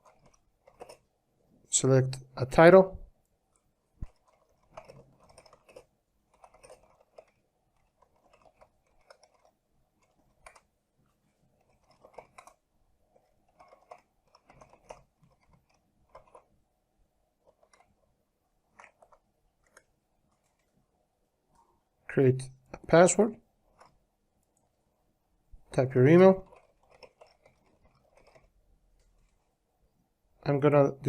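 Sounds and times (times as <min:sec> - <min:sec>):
faint keyboard typing: 0:00.0 - 0:01.2, 0:02.2 - 0:16.6, 0:17.3 - 0:20.9, 0:22.6 - 0:24.8, 0:25.5 - 0:29.6.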